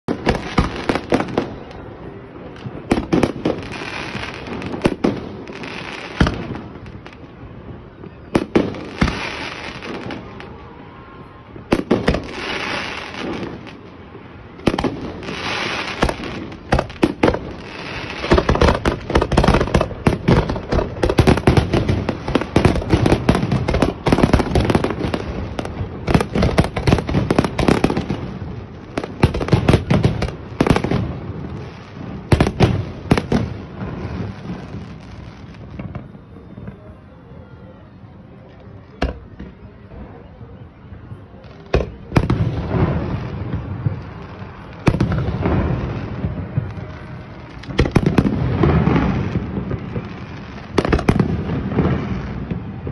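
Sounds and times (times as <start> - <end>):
fireworks bangs and crackle: 0.0 - 52.9.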